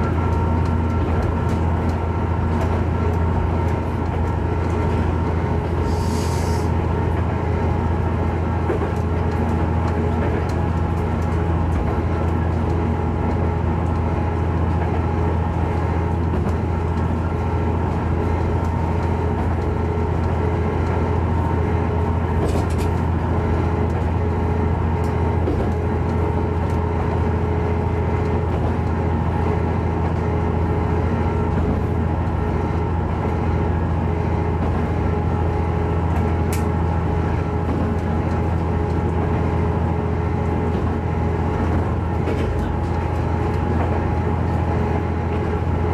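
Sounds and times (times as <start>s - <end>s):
railcar engine hum: 0.0s - 45.9s.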